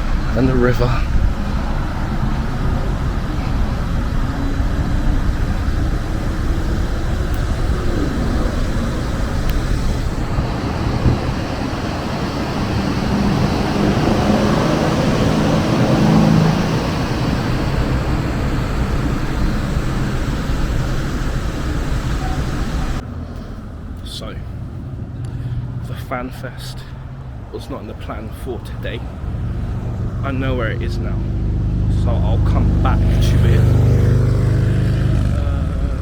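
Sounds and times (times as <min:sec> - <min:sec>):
road traffic noise: 0:00.0 - 0:36.0
vehicle passing: 0:00.0 - 0:36.0.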